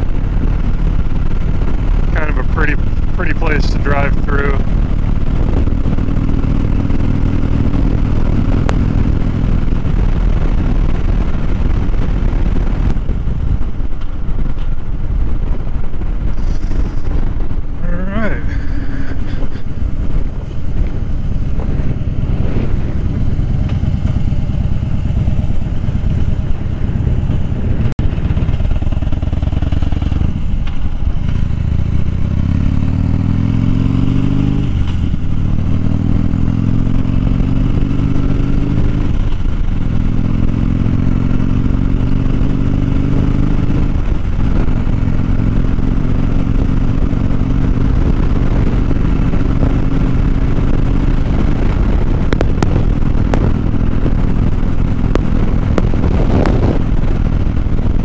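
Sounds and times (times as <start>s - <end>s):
motorcycle engine running: 0.0s - 58.0s
wind rush: 0.0s - 58.0s.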